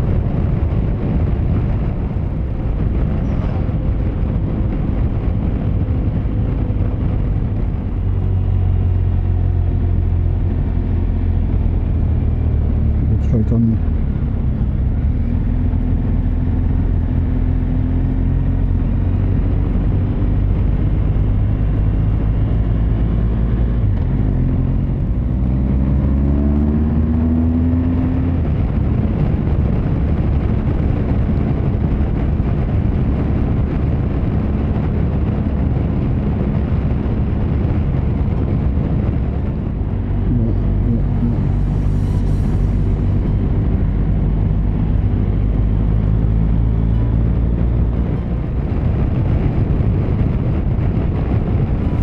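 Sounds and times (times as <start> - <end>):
road rumble: 0.0 - 52.0
vehicle engine hum: 0.0 - 52.0.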